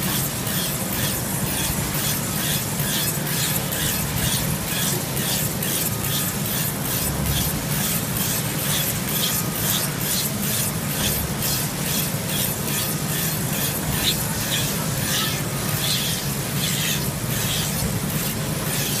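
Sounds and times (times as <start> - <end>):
blade rasping on pelt: 0.0 - 19.0.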